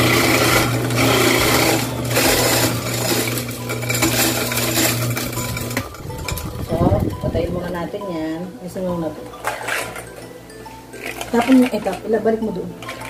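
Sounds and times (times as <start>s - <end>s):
ice grinding: 0.0s - 7.8s, 9.4s - 13.0s
ice crusher motor hum: 0.0s - 7.9s, 9.3s - 13.0s.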